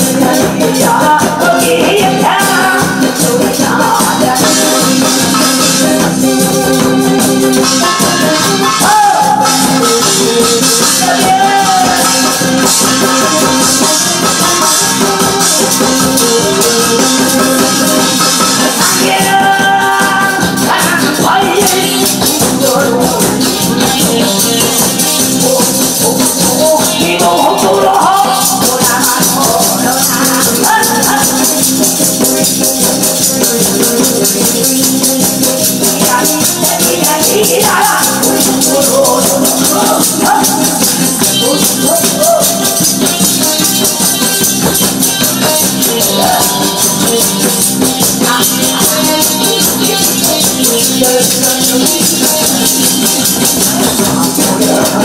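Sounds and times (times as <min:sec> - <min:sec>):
loud backing music: 0:00.0 - 0:55.0.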